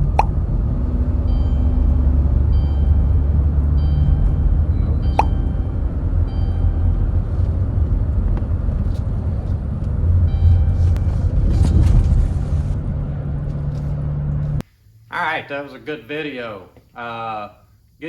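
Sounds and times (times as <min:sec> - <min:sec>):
minivan engine and road noise: 0:00.0 - 0:14.7.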